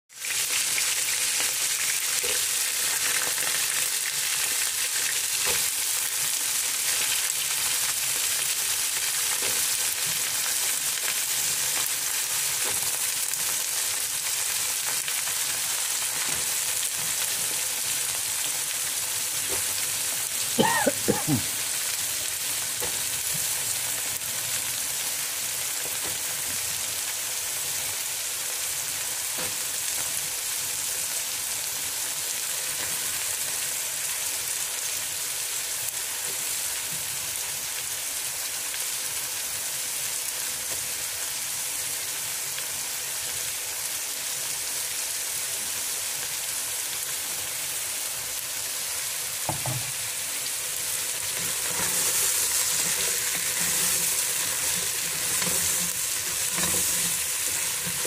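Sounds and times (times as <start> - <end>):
vegetables sizzling in oil: 0.1 - 58.0.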